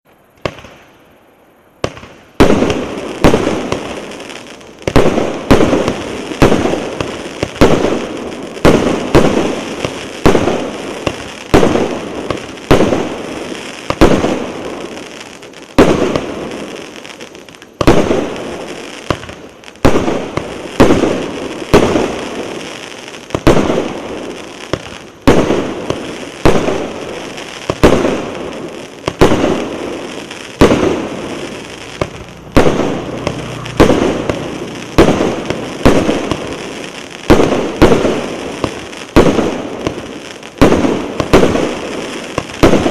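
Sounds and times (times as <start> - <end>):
fireworks cake firing shots: 0.4 - 0.9, 1.8 - 15.1, 15.7 - 42.9.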